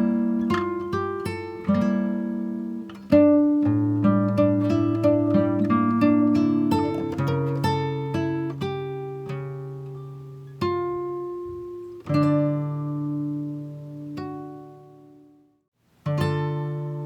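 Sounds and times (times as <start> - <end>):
acoustic guitar picking: 0.0 - 15.4, 16.0 - 17.0.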